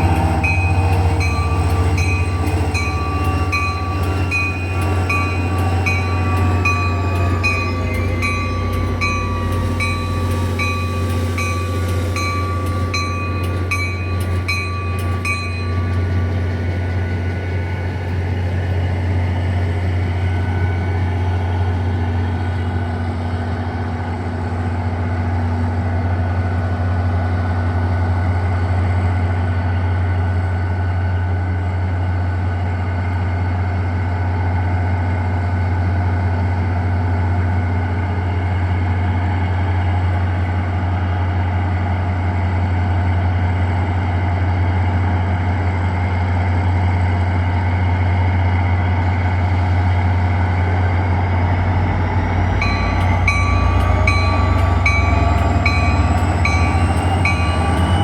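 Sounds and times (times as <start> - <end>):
locomotive engine low drone: 0.0 - 58.0.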